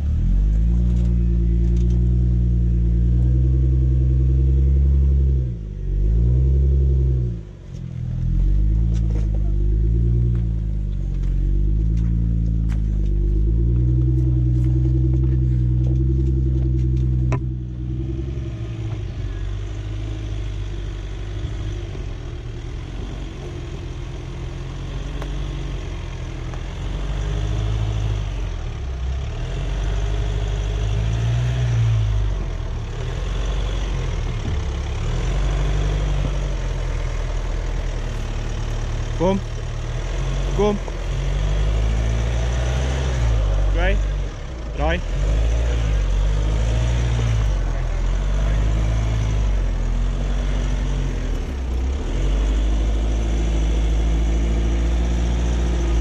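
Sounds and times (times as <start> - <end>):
engine running at low revs: 0.0 - 56.0.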